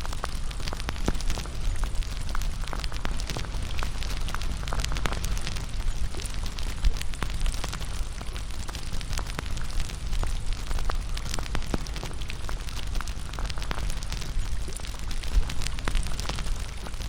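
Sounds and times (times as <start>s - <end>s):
raindrops falling into puddle: 0.0s - 17.0s
wood fire crackling: 0.0s - 17.0s.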